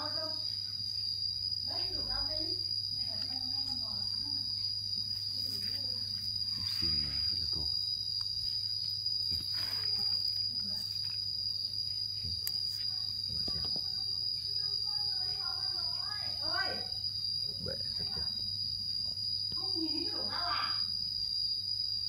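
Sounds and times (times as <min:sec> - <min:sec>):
insect trilling: 0:00.0 - 0:22.0.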